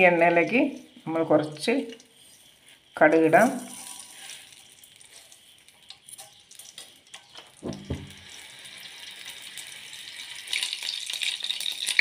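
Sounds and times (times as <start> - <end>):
seeds sizzling in hot oil: 0.0 - 12.0.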